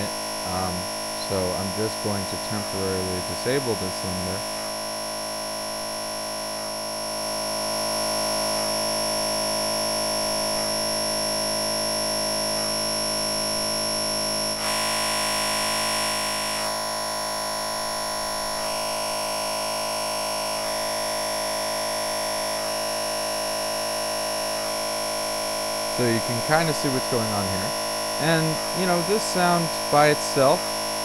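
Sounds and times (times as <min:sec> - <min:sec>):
digital feedback drone: 0:00.0 - 0:04.7, 0:05.4 - 0:31.0.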